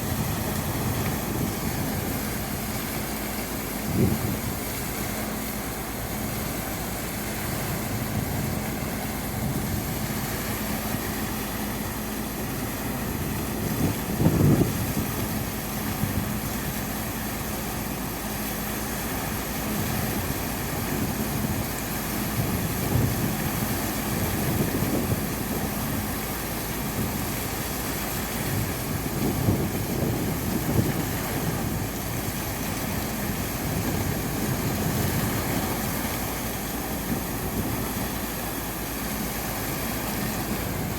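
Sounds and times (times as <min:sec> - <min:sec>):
pump engine running: 0:00.0 - 0:40.9
steady hum: 0:00.0 - 0:40.9.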